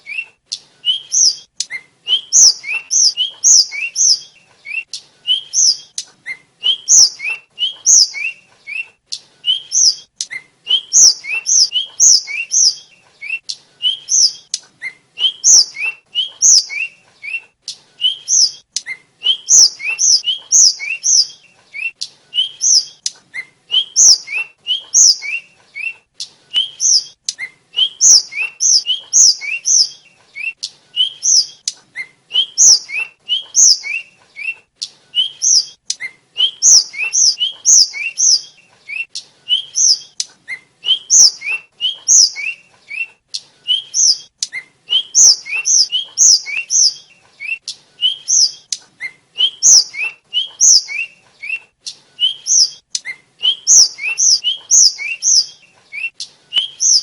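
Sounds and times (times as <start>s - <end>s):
flycatcher chattering song: 0.0s - 48.8s, 49.4s - 57.0s.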